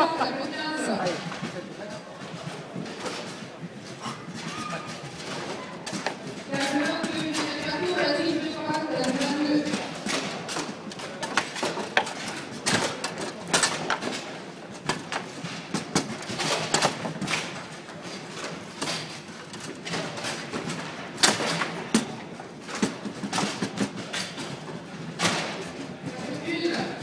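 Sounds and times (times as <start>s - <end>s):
clatter echoing through hall: 0.0s - 27.0s.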